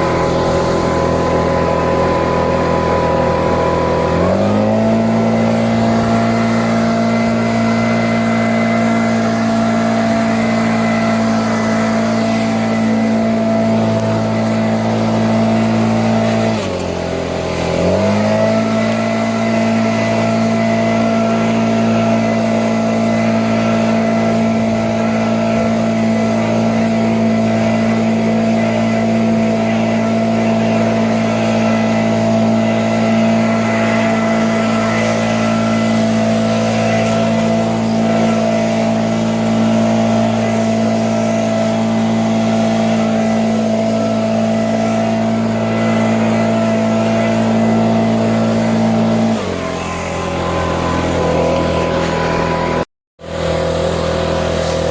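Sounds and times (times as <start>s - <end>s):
small gasoline engine running: 0.0s - 54.9s.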